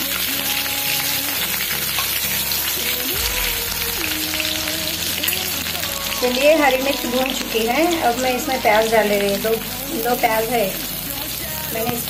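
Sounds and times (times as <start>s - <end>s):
chillies sizzling in hot oil: 0.0s - 12.0s.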